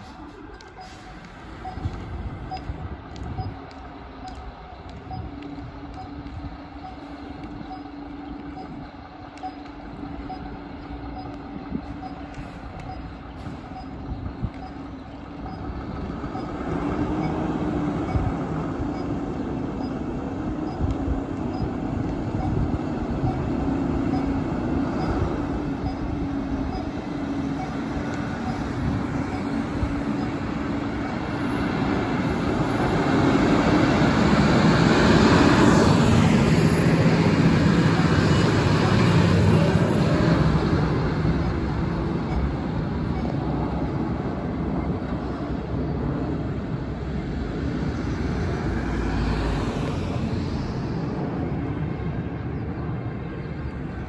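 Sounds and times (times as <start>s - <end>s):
diesel truck engines running: 0.0s - 54.0s.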